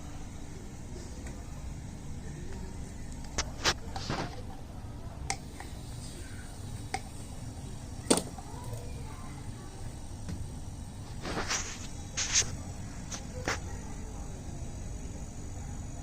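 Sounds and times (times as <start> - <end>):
refrigerator compressor hum: 0.0 - 16.0.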